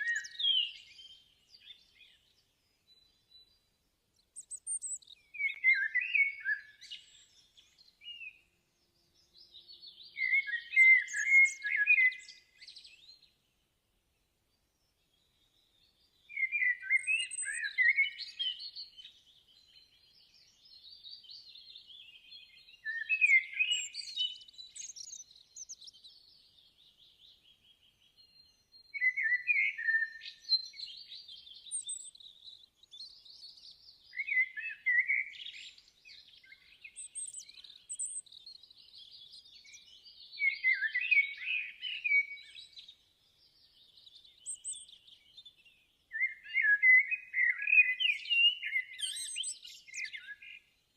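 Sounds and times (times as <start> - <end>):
songbirds chirping and twittering: 0.0 - 50.9.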